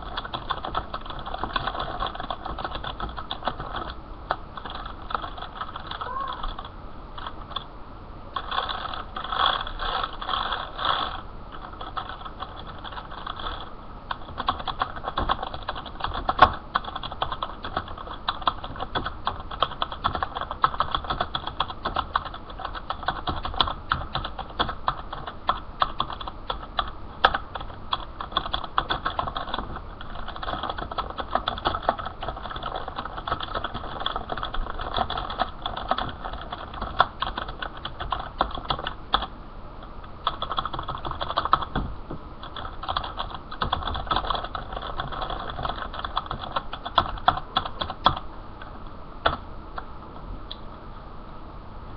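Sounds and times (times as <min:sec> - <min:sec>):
computer keyboard typing: 0:00.0 - 0:07.7, 0:08.4 - 0:39.3, 0:40.2 - 0:48.3, 0:49.2 - 0:49.4.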